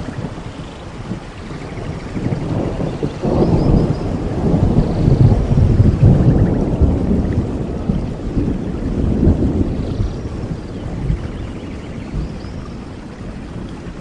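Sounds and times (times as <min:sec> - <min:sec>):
rolling thunder: 0:00.0 - 0:14.0
steady rain: 0:00.0 - 0:14.0.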